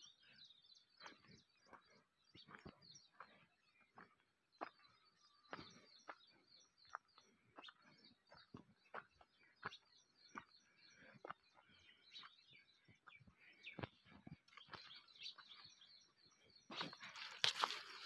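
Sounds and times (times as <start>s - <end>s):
small birds chirping: 0.0s - 18.0s
footsteps on dry soil and leaves: 1.0s - 18.0s.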